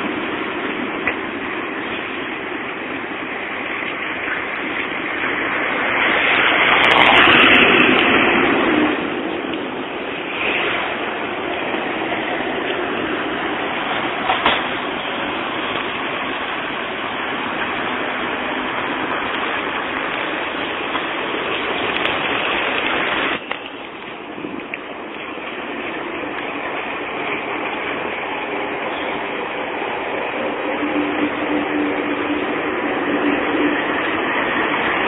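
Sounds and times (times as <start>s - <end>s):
tram rolling rumble and hiss: 0.0s - 35.0s.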